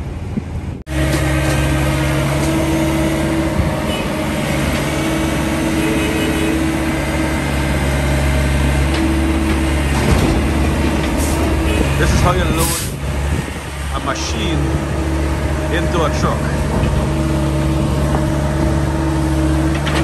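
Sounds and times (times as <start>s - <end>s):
excavator diesel engine under load: 0.0s - 20.0s.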